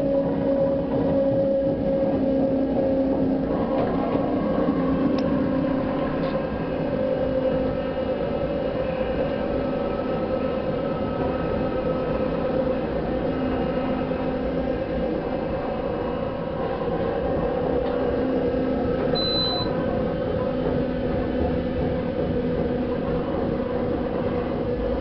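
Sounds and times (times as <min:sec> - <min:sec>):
railcar hum and rumble: 0:00.0 - 0:25.0.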